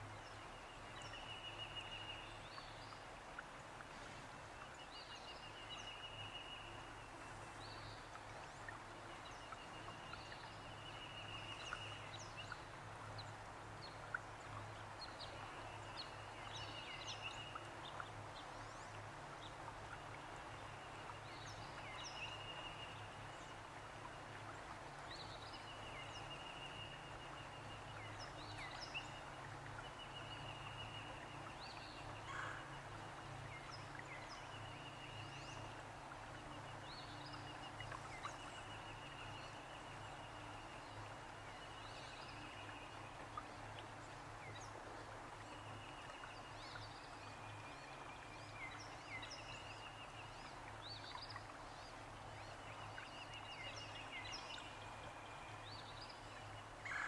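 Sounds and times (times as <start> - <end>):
water noise: 0.0 - 57.0
wind: 0.0 - 57.0.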